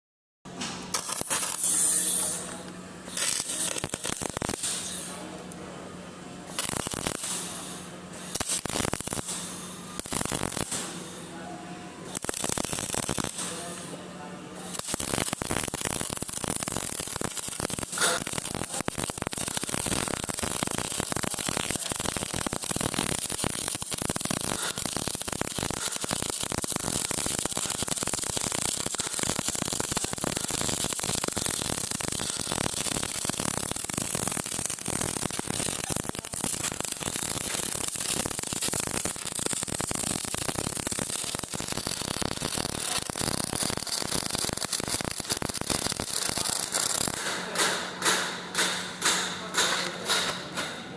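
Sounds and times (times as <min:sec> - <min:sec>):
welder arc crackling: 0:00.9 - 0:05.6, 0:06.4 - 0:11.3, 0:12.1 - 0:14.0, 0:14.6 - 0:50.2.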